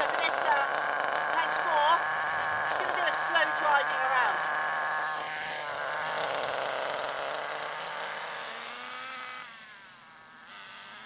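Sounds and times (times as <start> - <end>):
small nitro engine buzzing: 0.0 - 11.0.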